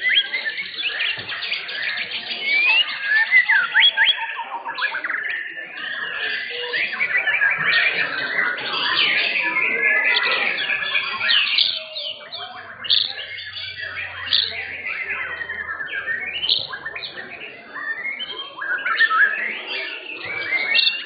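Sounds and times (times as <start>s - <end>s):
birds singing whistles and trills: 0.0s - 21.0s.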